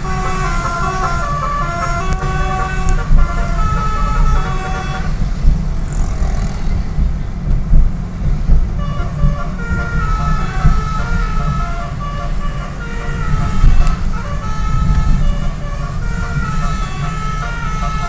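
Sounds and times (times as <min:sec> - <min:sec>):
multi-tone bus horn melody: 0:00.0 - 0:06.1, 0:08.7 - 0:18.0
engine and road rumble: 0:00.0 - 0:18.0.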